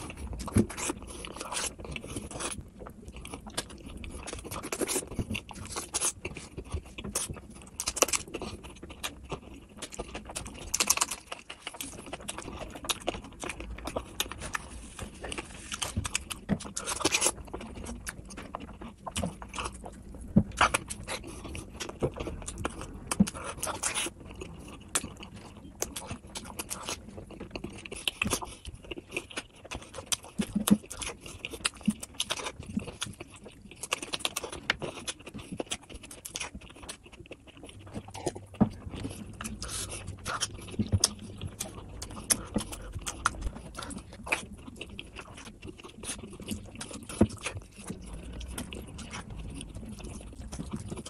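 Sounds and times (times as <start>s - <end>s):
wet chewing and lip-smacking: 0.0s - 51.0s.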